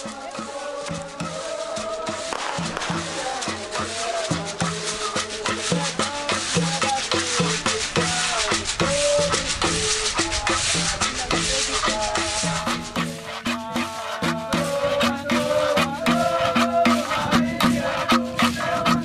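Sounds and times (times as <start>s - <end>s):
drums beating steady rhythm: 0.0s - 19.0s
voices singing: 0.0s - 19.0s.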